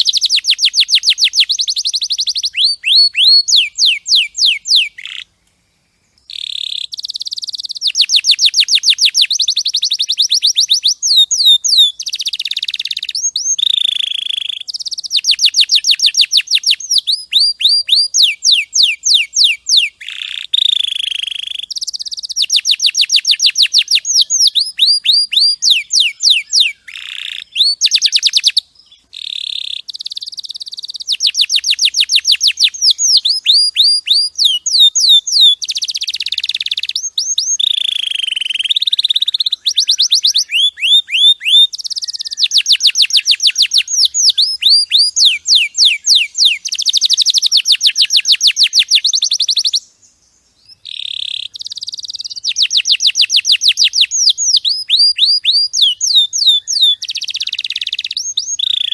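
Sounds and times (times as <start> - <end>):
canary singing trills: 0.0 - 5.4, 6.2 - 58.9.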